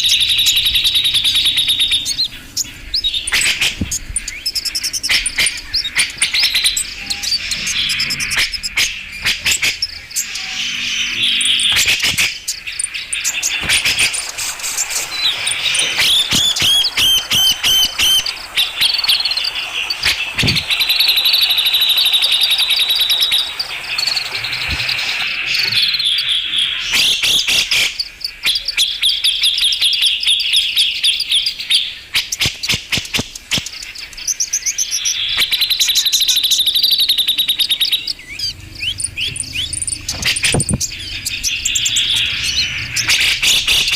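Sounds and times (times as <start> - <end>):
bird singing fast trills: 0.0 - 43.9.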